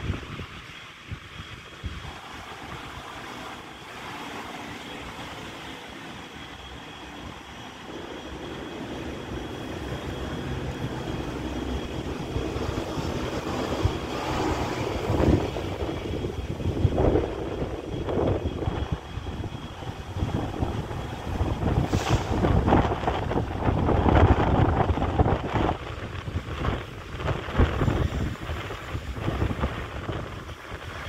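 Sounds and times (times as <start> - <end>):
electric train running slowly: 0.0 - 31.0.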